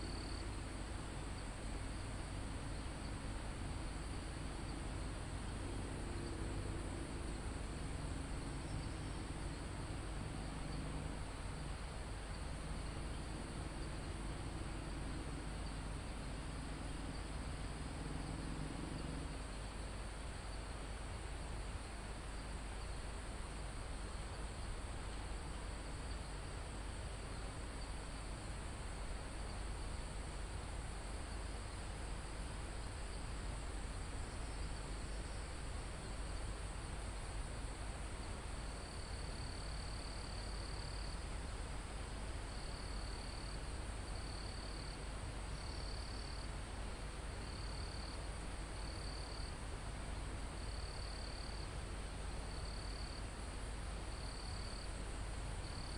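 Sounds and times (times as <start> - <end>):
crickets and insects trilling: 0.0 - 55.9
faint low hum: 0.0 - 55.9
soft background hiss: 0.0 - 55.9.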